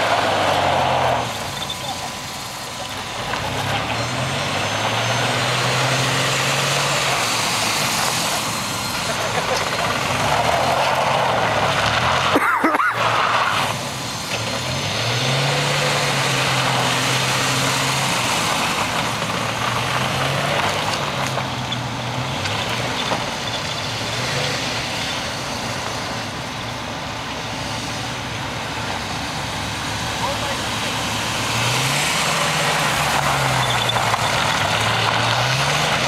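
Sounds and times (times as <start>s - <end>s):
engine running and revving: 0.0s - 36.0s.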